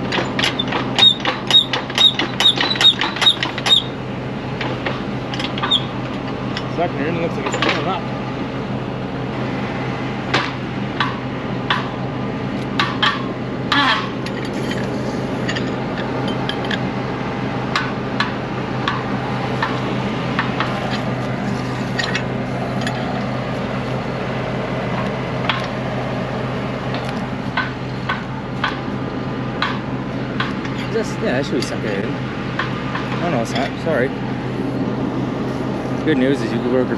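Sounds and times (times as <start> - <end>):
machinery humming: 0.0 - 36.9.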